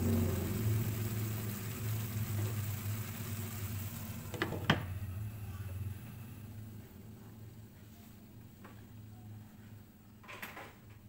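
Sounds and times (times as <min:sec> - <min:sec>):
low stove hum: 0:00.0 - 0:11.0.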